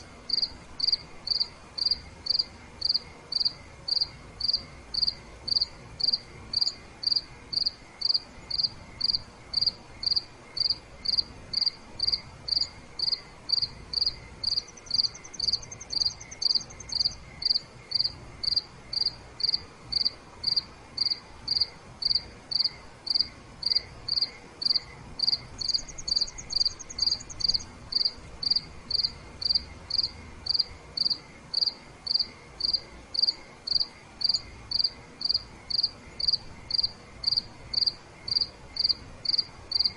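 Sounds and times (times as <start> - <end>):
cricket chirping: 0.0 - 39.9
faint high cricket trill: 0.0 - 39.9.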